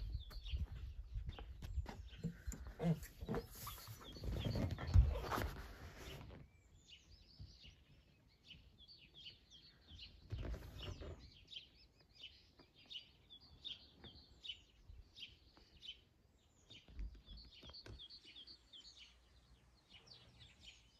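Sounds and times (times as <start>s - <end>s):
small birds chirping faintly: 0.0s - 20.9s.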